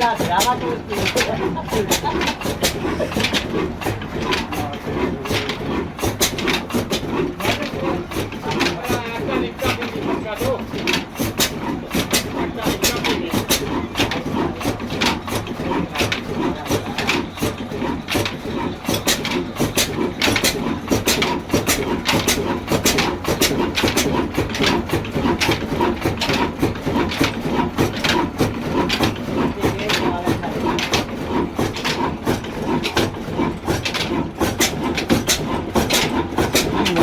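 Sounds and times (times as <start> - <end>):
diesel engine knocking: 0.0 - 37.0.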